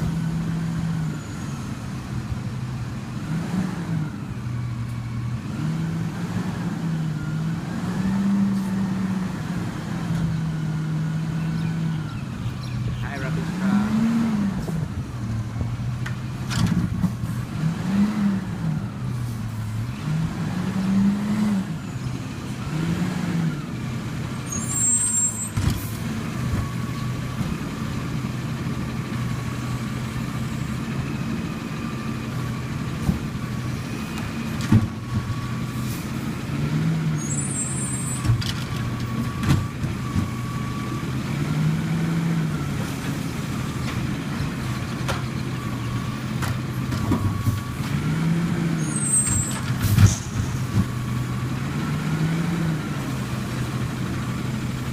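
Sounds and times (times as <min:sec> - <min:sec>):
rubbish truck engine running: 0:00.0 - 0:54.9.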